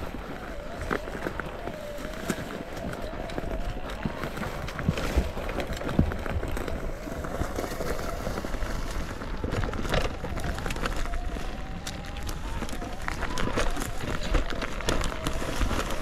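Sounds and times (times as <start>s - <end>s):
bike rattles and knocks: 0.0s - 16.0s
wind rumble on microphone: 0.0s - 16.0s.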